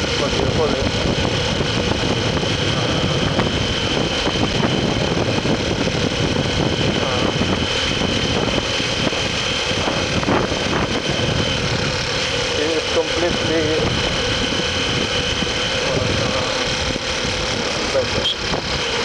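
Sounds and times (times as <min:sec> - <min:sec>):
motorcycle engine running: 0:00.0 - 0:19.0
road noise: 0:00.0 - 0:19.0
wind rush: 0:00.0 - 0:19.0.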